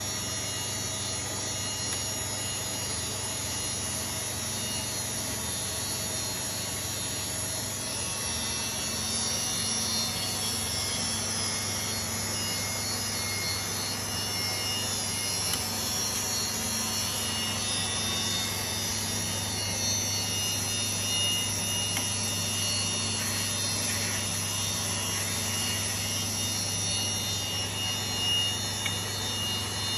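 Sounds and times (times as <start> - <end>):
engraving machine motor humming: 0.2 - 29.9.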